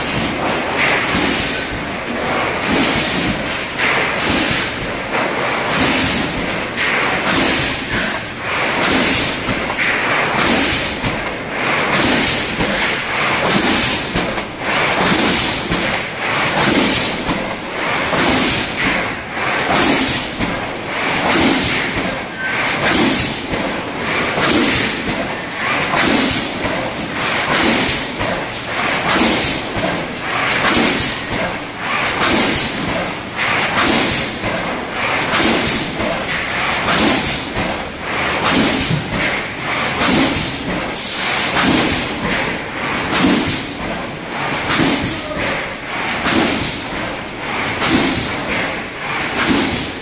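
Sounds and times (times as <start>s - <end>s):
machine hiss: 2.6s - 37.5s, 38.1s - 43.7s.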